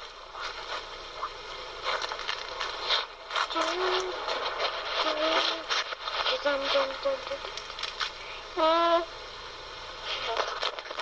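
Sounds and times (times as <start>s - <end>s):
muffled indistinct voices: 0.2s - 11.0s.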